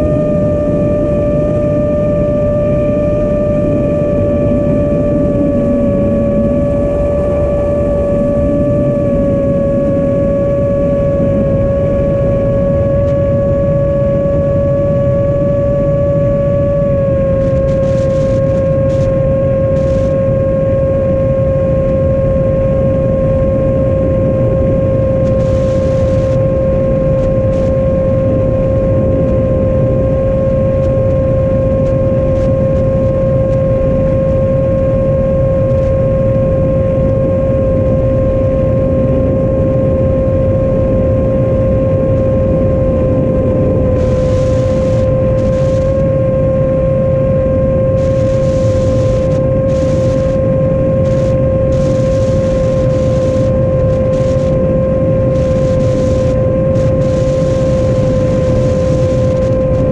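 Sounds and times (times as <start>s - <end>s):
steady low rush: 0.0s - 35.1s, 38.4s - 59.9s
drone propellers whining: 0.0s - 59.9s.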